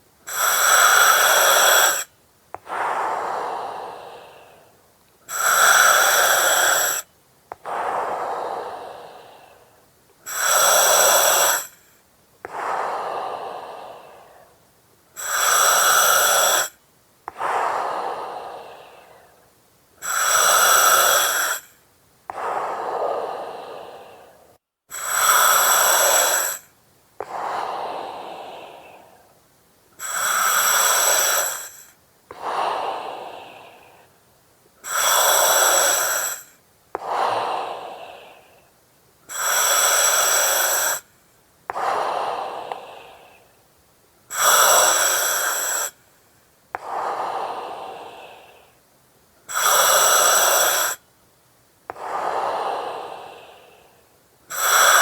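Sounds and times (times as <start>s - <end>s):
breathing through oxygen mask: 0.0s - 14.6s, 15.2s - 19.4s, 20.0s - 29.3s, 30.0s - 34.2s, 34.8s - 38.7s, 39.3s - 41.1s, 41.7s - 43.5s, 44.3s - 46.0s, 46.8s - 48.9s, 49.5s - 51.0s, 51.9s - 55.0s.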